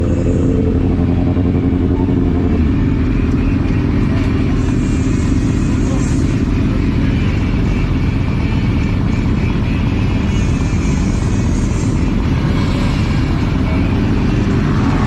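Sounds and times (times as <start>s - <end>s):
motorcycle engine: 0.0s - 15.0s
road and wind rumble: 0.0s - 15.0s.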